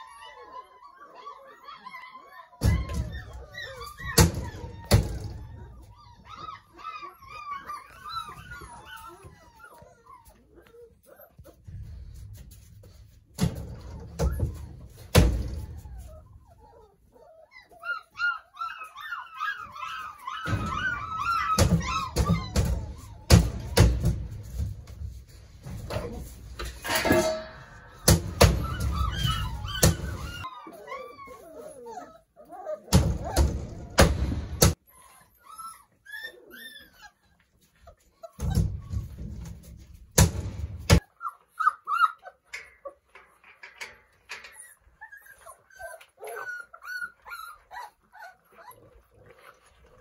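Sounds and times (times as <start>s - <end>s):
puppy whimpering and whining: 0.0s - 24.9s, 27.2s - 40.0s, 40.9s - 50.0s.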